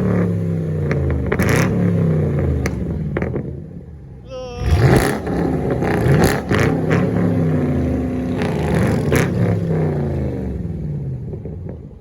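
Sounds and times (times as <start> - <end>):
car exhaust revving: 0.0 - 12.0.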